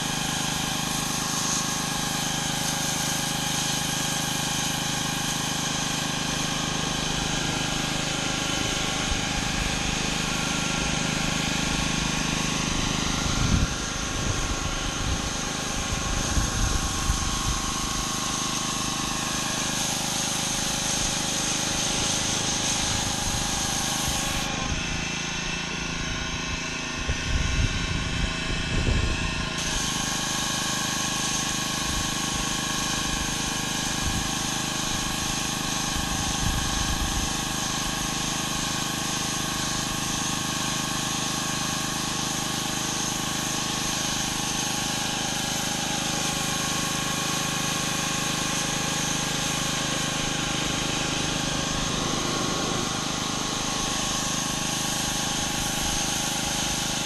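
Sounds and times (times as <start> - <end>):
water spraying concrete: 0.0 - 26.7, 29.4 - 57.0
pressure washer engine running: 0.0 - 57.0.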